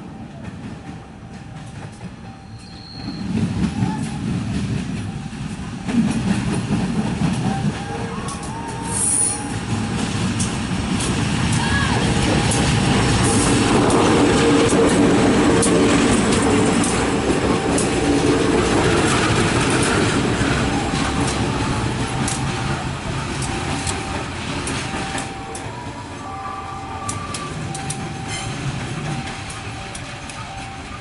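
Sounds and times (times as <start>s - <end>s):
train rumbling past: 0.0s - 31.0s
wheels clicking over rail joints: 0.4s - 31.0s.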